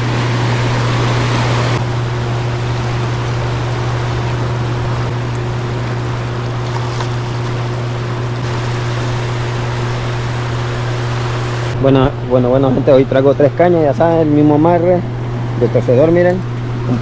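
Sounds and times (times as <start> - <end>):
strong low hum: 0.0 - 17.0.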